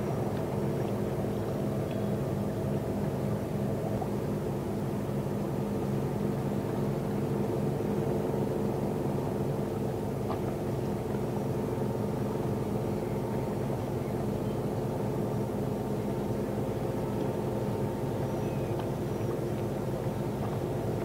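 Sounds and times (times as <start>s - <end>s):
ship engine droning: 0.0s - 21.0s.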